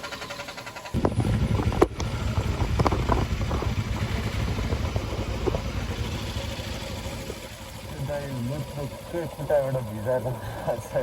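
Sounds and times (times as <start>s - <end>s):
sharp knocks and rattles: 0.0s - 9.9s
motorcycle rumbling off-road: 0.0s - 11.0s.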